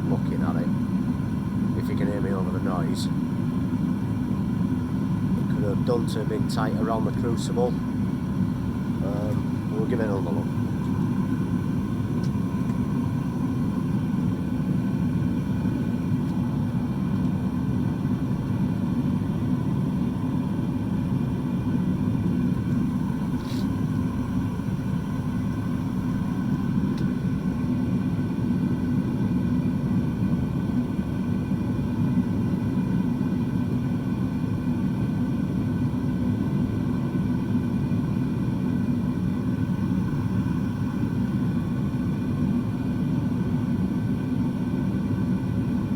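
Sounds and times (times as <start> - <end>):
furnace burner flame roaring: 0.0 - 45.9.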